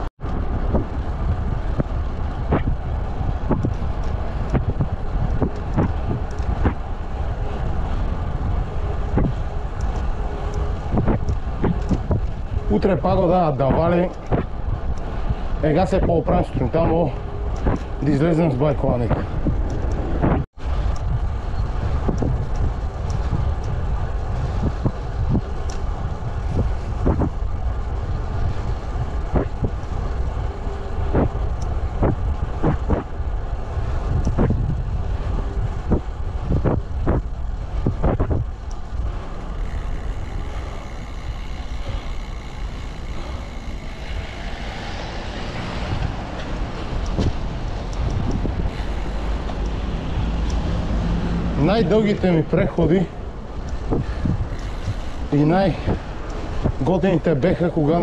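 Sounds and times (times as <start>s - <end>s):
bike road noise: 0.0s - 58.0s
wind rushing over microphone: 0.0s - 58.0s.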